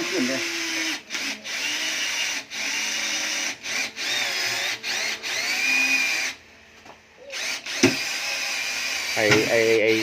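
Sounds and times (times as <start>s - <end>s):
power drill running: 0.0s - 6.4s, 7.3s - 10.0s.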